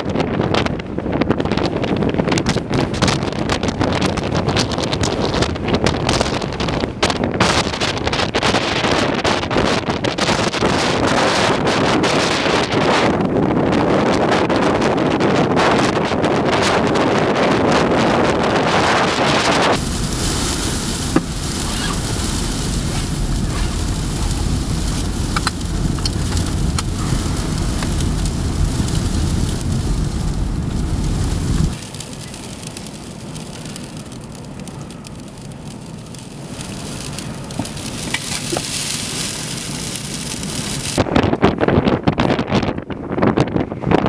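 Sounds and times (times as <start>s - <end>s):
strong wind on microphone: 0.0s - 44.0s.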